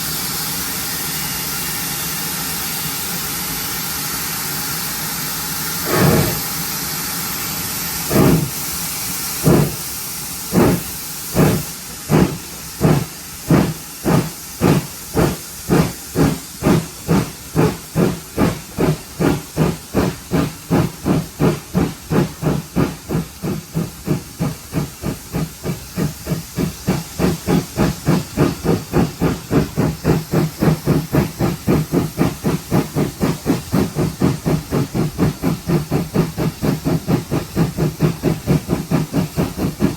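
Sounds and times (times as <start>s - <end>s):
steam hissing: 0.0s - 39.9s
steam locomotive exhaust chuffs: 0.0s - 39.9s.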